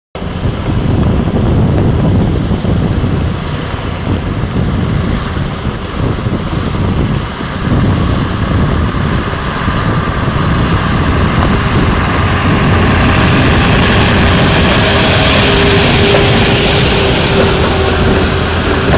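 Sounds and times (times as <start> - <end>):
trailer tyres rolling: 0.2 - 18.9
truck diesel engine passing: 0.2 - 18.9.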